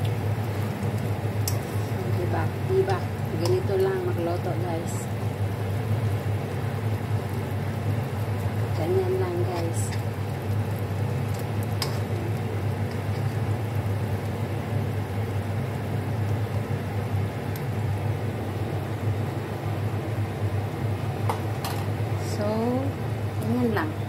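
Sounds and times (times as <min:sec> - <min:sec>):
low machine hum with hiss: 0:00.0 - 0:24.0.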